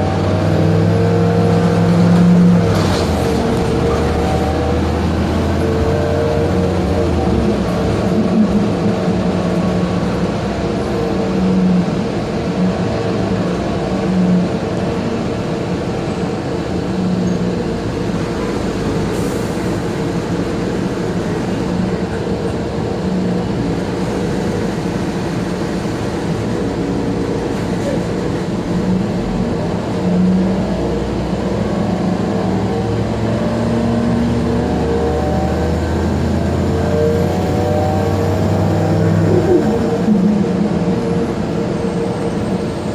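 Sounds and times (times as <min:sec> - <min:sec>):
bus engine running: 0:00.0 - 0:42.9.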